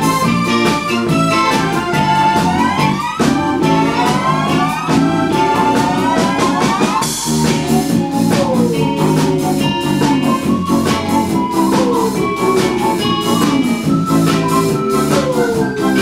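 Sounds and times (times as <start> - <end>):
drum kit steady beat: 0.0 - 16.0
electric bass: 0.0 - 16.0
keyboard notes sliding in pitch: 0.0 - 16.0.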